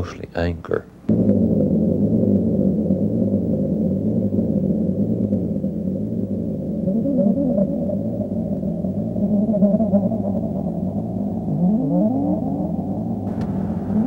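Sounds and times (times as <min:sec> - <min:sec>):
low droning rumble: 0:00.0 - 0:14.0.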